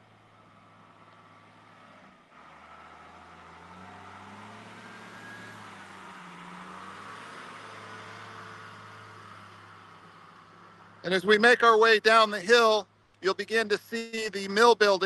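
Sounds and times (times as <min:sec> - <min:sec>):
wheel loader diesel engine: 0:00.0 - 0:15.0.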